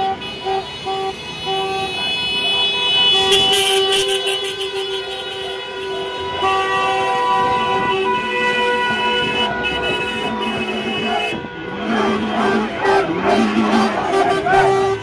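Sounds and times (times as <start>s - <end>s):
car horns blaring: 0.0s - 15.0s.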